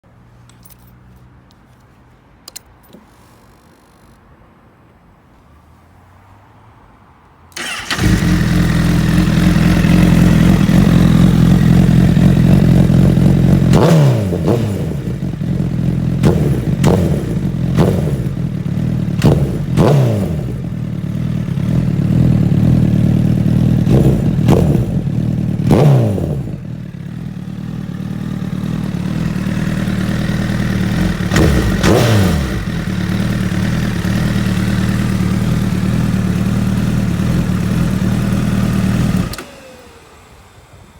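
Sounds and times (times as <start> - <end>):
motorcycle engine starting: 7.5 - 40.9.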